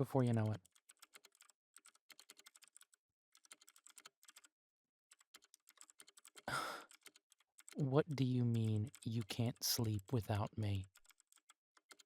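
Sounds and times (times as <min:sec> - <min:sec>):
typing on computer keyboard: 0:00.0 - 0:12.0.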